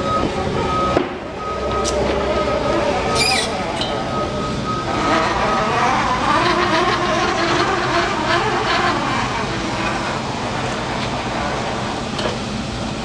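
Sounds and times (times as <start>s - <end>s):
forklift engine revving: 0.0s - 13.0s.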